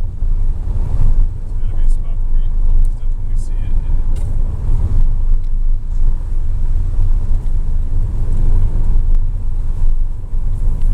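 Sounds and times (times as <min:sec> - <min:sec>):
car engine and road noise: 0:00.0 - 0:10.9.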